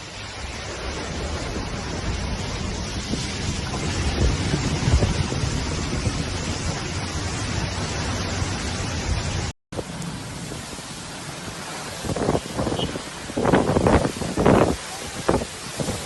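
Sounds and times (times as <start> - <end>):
heavy rain pouring: 0.0 - 16.0
wind gusting on microphone: 0.0 - 16.0.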